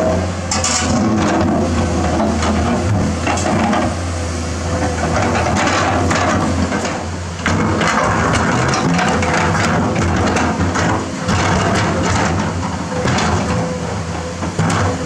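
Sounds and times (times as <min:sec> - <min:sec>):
bucket knocking and scraping boulder: 0:00.0 - 0:04.0, 0:04.9 - 0:15.0
excavator diesel engine running: 0:00.0 - 0:15.0.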